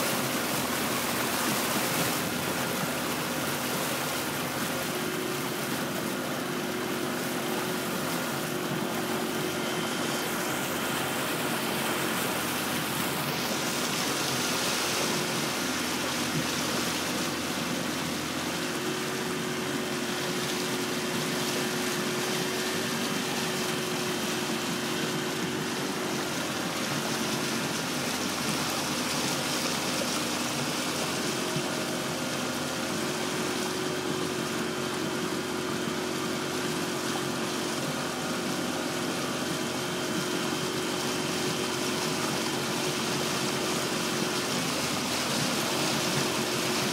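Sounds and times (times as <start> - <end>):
boat engine humming: 0.0 - 46.9
water rushing along hull: 0.0 - 46.9.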